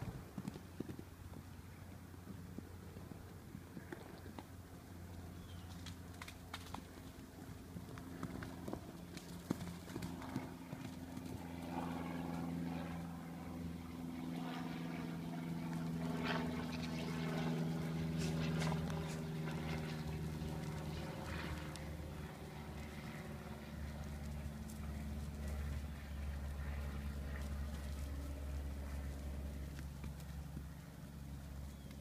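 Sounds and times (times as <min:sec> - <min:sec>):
hooves galloping on dirt: 0:00.0 - 0:12.9, 0:15.6 - 0:32.0
steady low hum: 0:00.0 - 0:32.0.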